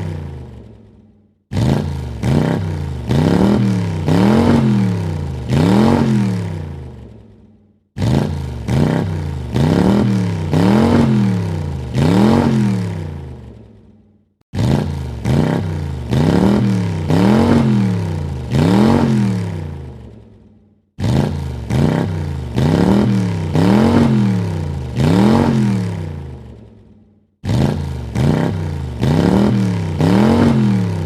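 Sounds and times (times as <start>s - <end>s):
car engine revving: 0.0s - 7.4s, 8.0s - 13.7s, 14.5s - 20.2s, 21.0s - 26.6s, 27.4s - 31.0s.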